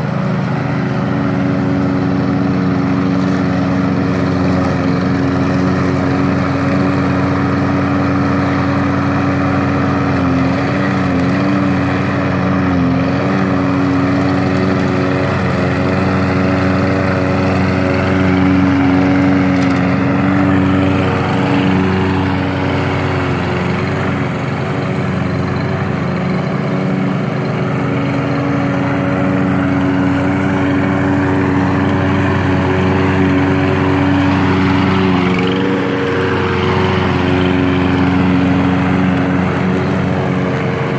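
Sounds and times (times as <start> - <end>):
lawn mower running: 0.0 - 40.9.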